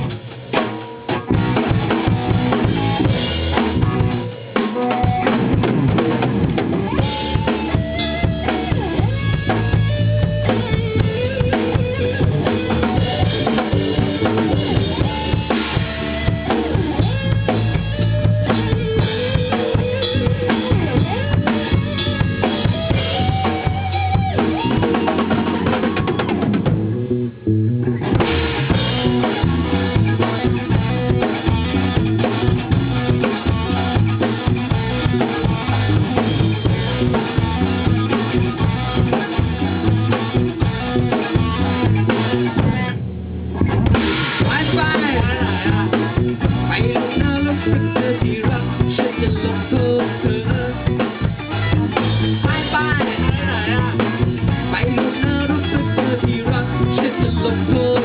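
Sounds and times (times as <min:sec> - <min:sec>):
band playing pop-rock: 0:00.0 - 0:58.0
drum kit beat: 0:00.0 - 0:58.0.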